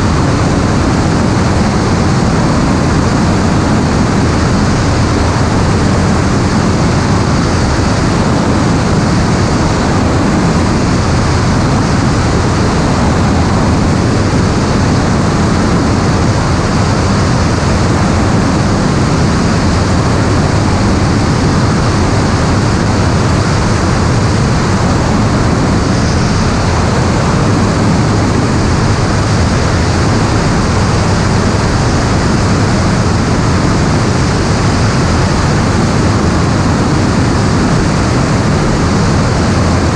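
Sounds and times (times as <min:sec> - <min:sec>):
aircraft engine roar: 0:00.0 - 0:39.9.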